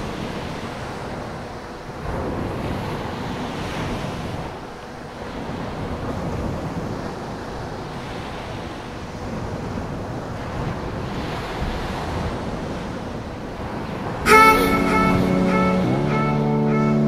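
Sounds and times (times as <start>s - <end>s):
wind buffeting microphone: 0.0s - 14.3s
surf washing on beach: 0.0s - 16.9s.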